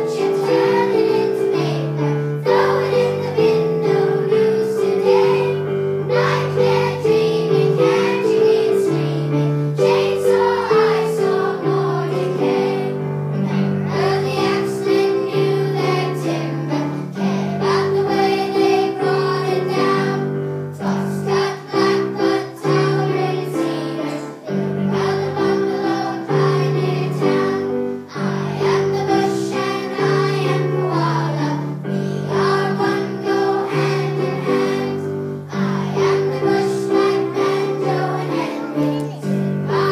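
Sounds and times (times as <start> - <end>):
children singing together: 0.0 - 39.9
instrumental accompaniment: 0.0 - 39.9.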